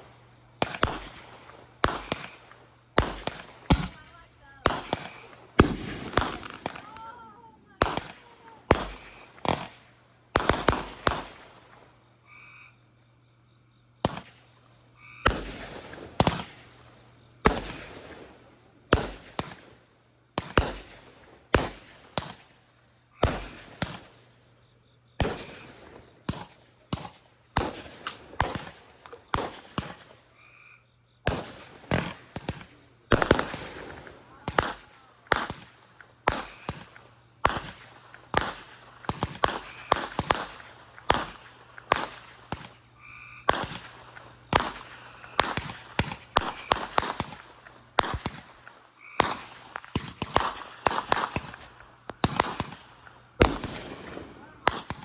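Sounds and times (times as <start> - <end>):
fireworks bangs: 0.0 - 11.9, 15.2 - 19.8, 20.4 - 22.5, 23.2 - 24.3, 25.2 - 30.3, 31.2 - 55.0.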